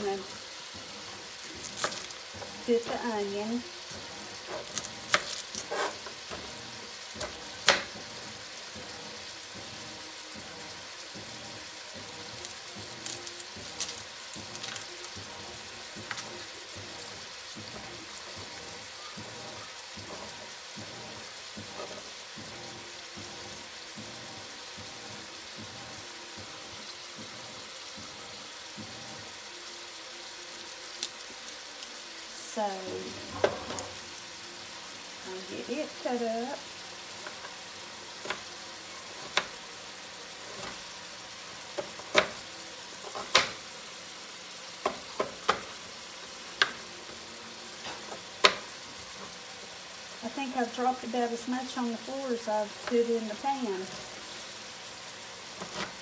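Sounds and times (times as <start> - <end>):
vegetables sizzling in a pot: 0.0 - 56.0.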